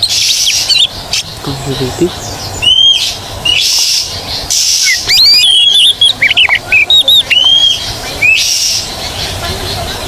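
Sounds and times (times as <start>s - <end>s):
bird whistled song: 0.0s - 1.2s, 2.2s - 9.9s
bird harsh hissing notes: 0.0s - 9.5s.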